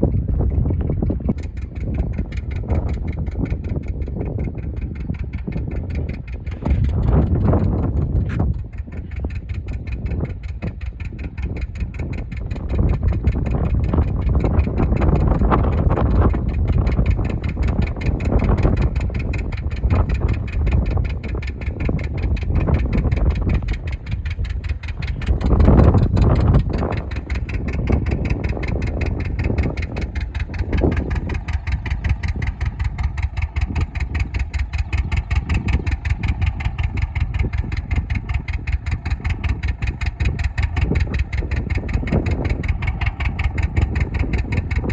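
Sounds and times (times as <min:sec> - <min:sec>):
engine running: 0:00.0 - 0:44.9
steady whine: 0:00.0 - 0:44.9.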